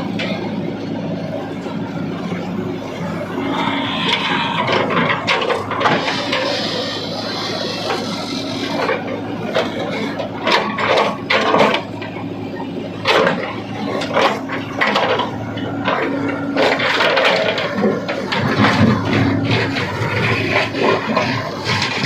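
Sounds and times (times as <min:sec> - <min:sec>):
diesel engine running: 0:00.0 - 0:22.0
knocks and scraping clatter: 0:01.6 - 0:12.3, 0:12.9 - 0:22.0.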